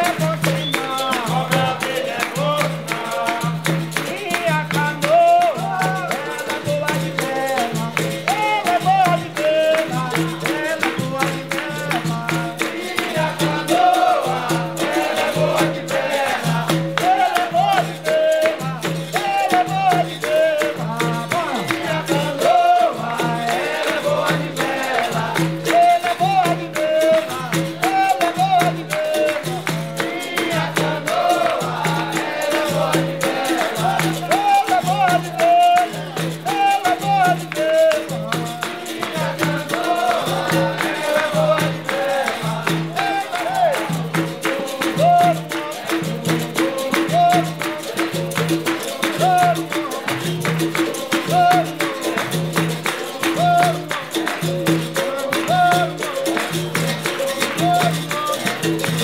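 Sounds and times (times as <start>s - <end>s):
berimbau and hand percussion: 0.0s - 59.0s
group singing: 0.0s - 59.0s.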